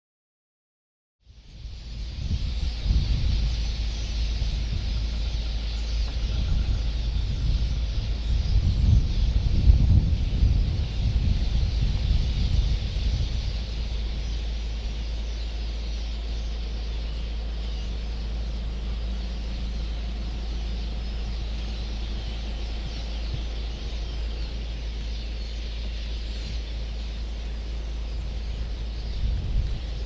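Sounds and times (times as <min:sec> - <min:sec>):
constant low rumble: 0:01.2 - 0:30.0
chorus of birds calling: 0:01.4 - 0:30.0.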